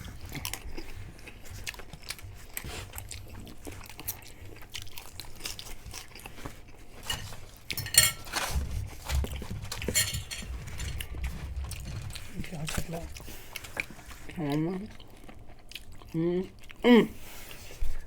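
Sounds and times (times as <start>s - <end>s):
chewing crisp chips: 0.1s - 7.8s, 10.7s - 17.6s.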